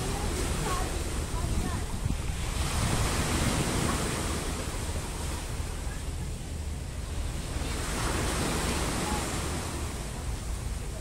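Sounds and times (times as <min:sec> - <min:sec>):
surf washing up stony shore: 0:00.0 - 0:11.0
wind rumbling on microphone: 0:00.0 - 0:11.0.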